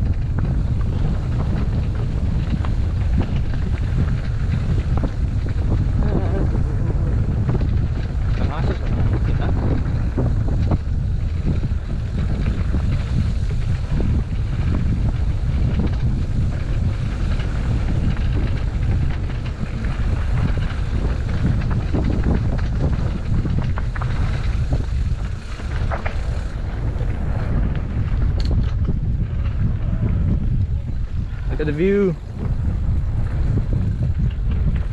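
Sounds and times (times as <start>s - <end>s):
bike clicks and rattles: 0.0s - 34.9s
wind buffeting microphone: 0.0s - 34.9s.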